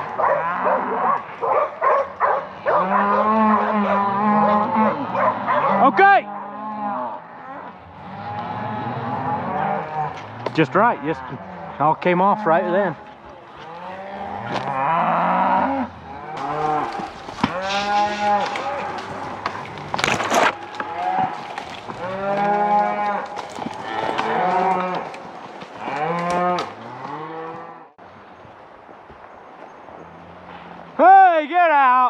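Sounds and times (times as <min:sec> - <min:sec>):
cows mooing: 0:00.0 - 0:27.9.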